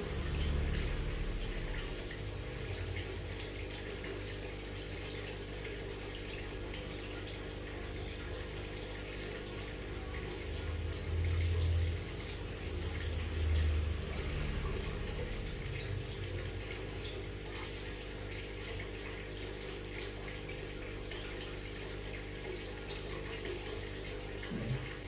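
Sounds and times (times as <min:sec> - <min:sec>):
low motor hum: 0:00.0 - 0:25.0
water trickling and bubbling: 0:00.0 - 0:25.0.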